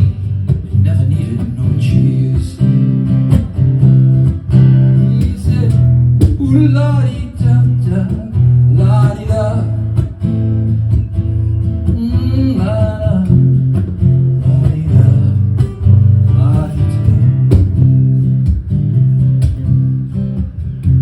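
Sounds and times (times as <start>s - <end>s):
bass notes: 0.0s - 21.0s
strummed acoustic guitar: 0.0s - 21.0s.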